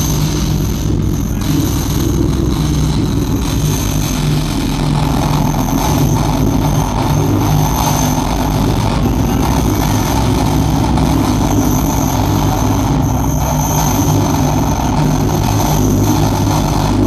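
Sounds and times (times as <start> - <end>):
industrial electronic noise: 0.0 - 17.0
low throbbing drone: 0.0 - 17.0.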